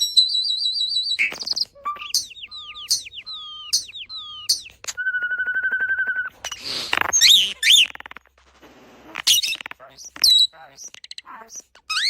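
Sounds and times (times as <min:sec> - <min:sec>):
starling whistling and clicking: 0:00.0 - 0:08.4, 0:09.2 - 0:12.0.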